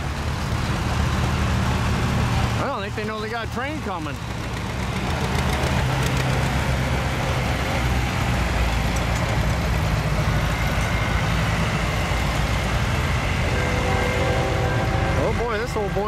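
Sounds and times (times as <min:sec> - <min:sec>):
diesel locomotives: 0:00.0 - 0:16.0
tractor engines: 0:00.0 - 0:16.0.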